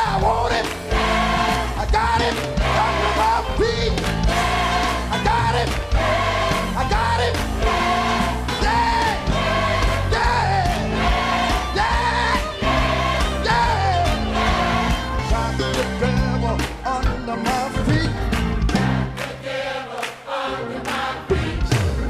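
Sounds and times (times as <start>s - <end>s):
bass: 0.0s - 19.2s
steady drum beat: 0.0s - 19.2s
choir singing gospel: 0.0s - 22.0s.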